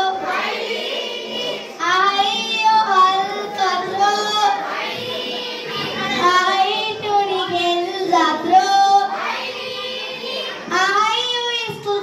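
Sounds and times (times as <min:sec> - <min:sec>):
children singing: 0:00.0 - 0:12.0
girl singing into a microphone: 0:01.8 - 0:12.0.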